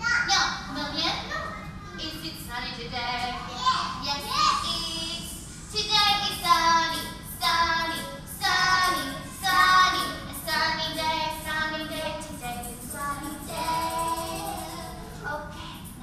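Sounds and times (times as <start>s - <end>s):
woman and children singing: 2.0s - 16.0s.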